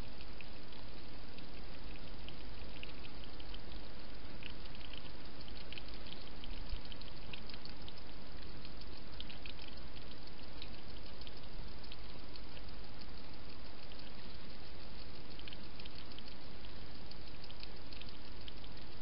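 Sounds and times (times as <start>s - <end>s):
steady hiss: 0.0s - 19.0s
hedgehog eating clicks and smacks: 1.4s - 19.0s.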